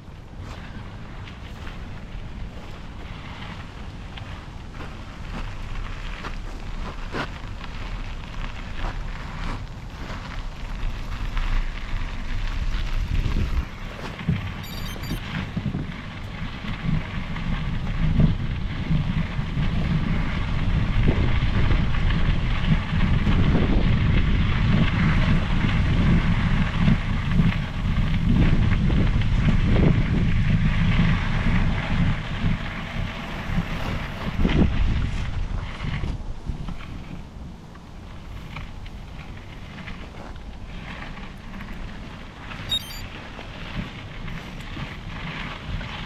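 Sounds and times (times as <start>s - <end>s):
mountain bike tyres rolling: 0.0s - 14.7s, 15.3s - 46.0s
wind buffeting microphone: 0.0s - 42.7s.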